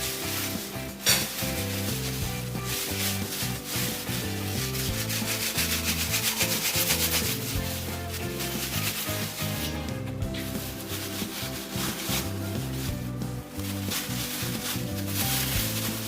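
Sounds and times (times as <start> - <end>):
background music with bass line: 0.0 - 16.0
rough rasping noise: 0.0 - 16.0.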